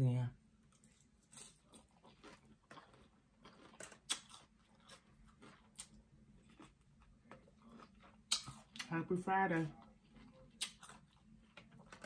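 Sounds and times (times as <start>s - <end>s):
person chewing salad: 0.6s - 8.9s, 9.7s - 12.0s.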